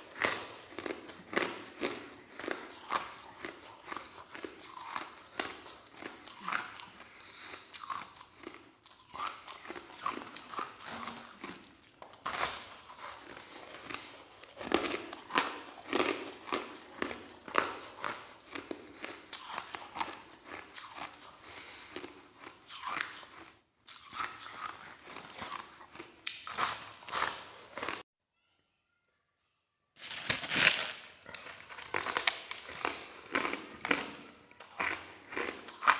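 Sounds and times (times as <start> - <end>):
ice being chewed: 0.0 - 28.0, 30.0 - 35.9.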